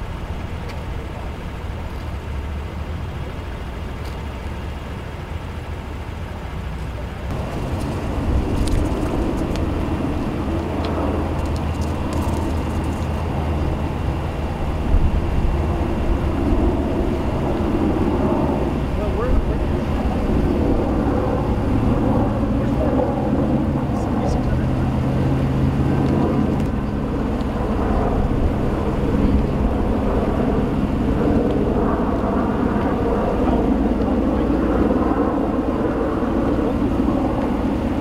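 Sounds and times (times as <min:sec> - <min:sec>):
vehicle engines rumbling: 0:00.0 - 0:38.0.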